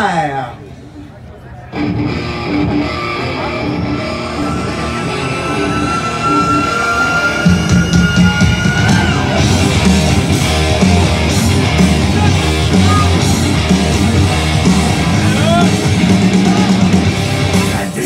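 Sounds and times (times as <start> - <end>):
heavy metal music: 1.7 - 18.0.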